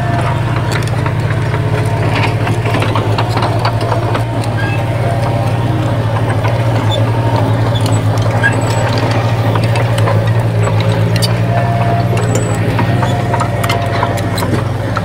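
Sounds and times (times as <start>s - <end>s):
bulldozer diesel engine running: 0.0s - 15.0s
metallic clicks and clanks: 0.0s - 15.0s.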